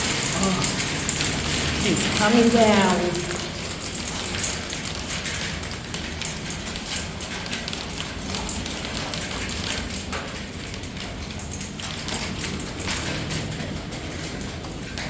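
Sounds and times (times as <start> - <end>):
heavy rain pouring: 0.0 - 15.0
raindrops splatting on hard surfaces: 0.0 - 15.0.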